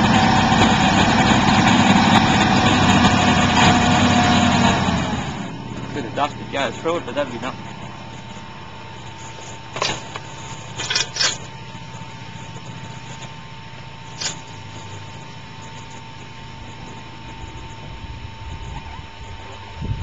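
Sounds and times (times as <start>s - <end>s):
distant plane engine drone: 0.0s - 20.0s
thin steady whine: 0.0s - 20.0s.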